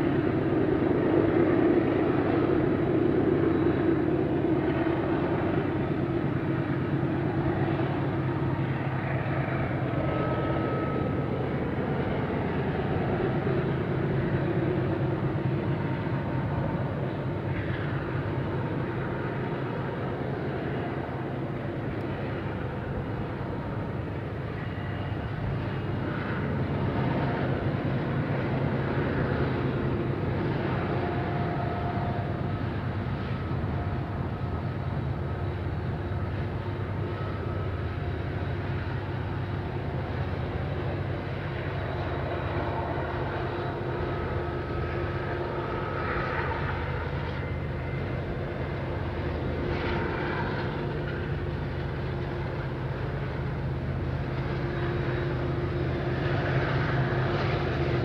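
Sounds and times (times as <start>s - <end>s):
distant diesel locomotive engines droning: 0.0s - 58.0s.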